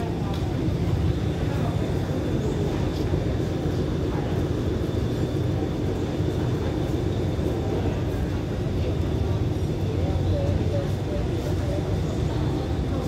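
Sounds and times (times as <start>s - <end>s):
diesel train engine idling: 0.0s - 13.0s.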